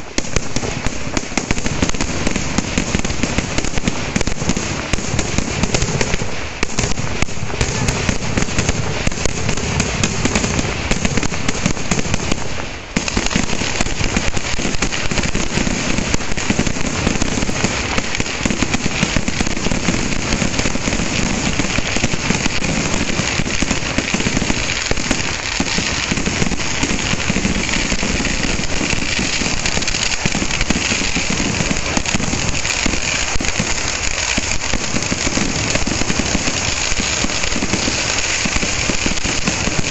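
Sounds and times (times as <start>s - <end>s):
firecracker bangs and crackling: 0.0s - 39.9s.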